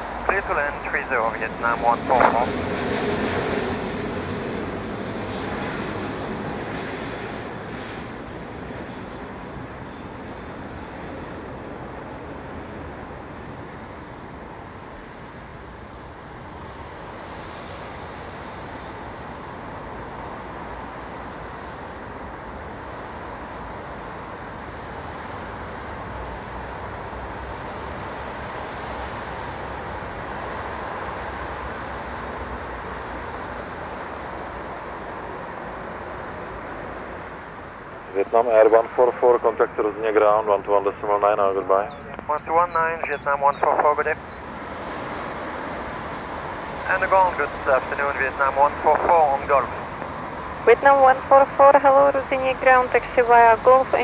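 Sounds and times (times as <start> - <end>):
distant jet airliner landing: 0.0 - 54.0.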